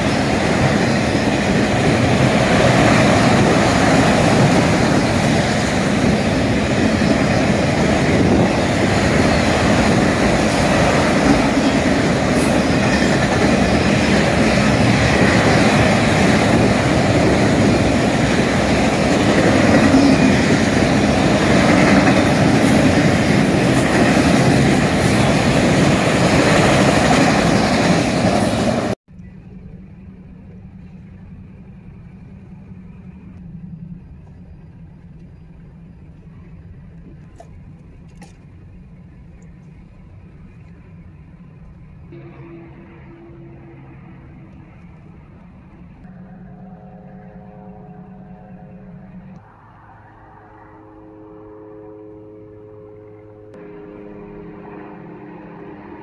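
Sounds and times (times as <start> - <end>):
train wheels rumbling on rails: 0.0 - 49.6.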